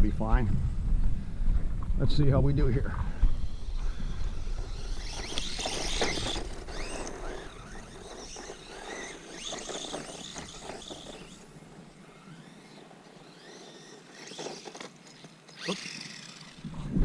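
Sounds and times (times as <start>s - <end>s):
tyres crackling on sandy ground: 2.7s - 16.6s
electric motor whining: 2.9s - 17.0s.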